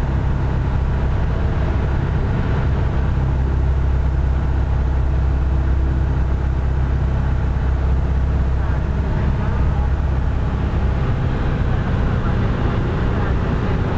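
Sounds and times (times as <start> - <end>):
aircraft engine droning: 0.0 - 13.9.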